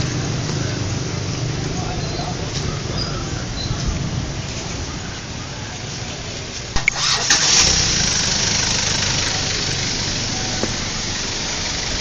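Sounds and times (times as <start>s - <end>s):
engine running: 0.0s - 4.8s, 6.3s - 12.0s.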